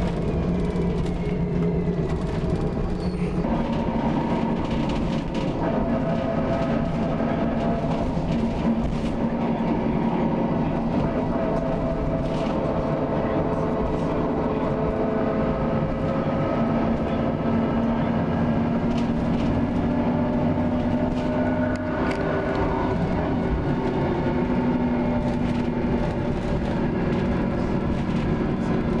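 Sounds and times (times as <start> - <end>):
bus drivetrain drone and whine: 0.0 - 29.0
grinding from rear: 0.0 - 29.0.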